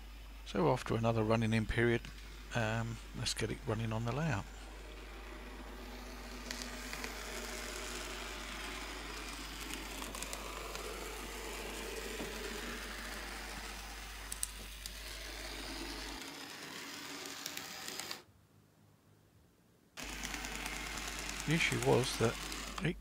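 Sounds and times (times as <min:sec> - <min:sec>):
model locomotive motor whirring: 0:00.0 - 0:18.3, 0:20.0 - 0:23.0.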